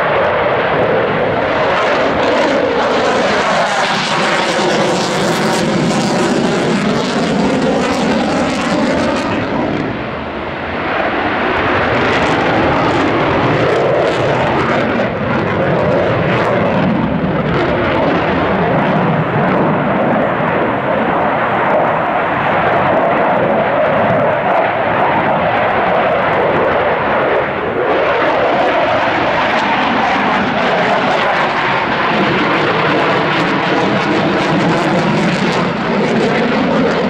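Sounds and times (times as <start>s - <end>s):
fighter jet engines roaring: 0.0s - 37.0s.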